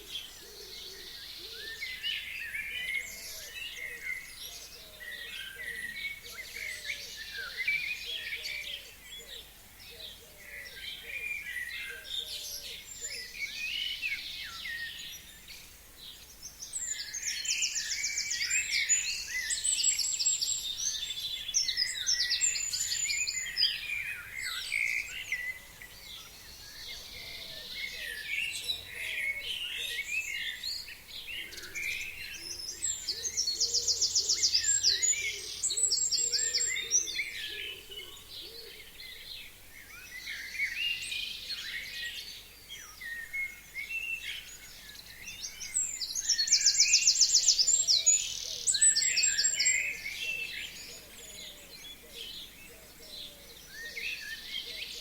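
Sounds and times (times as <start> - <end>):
songbirds chirping and warbling: 0.0 - 55.0.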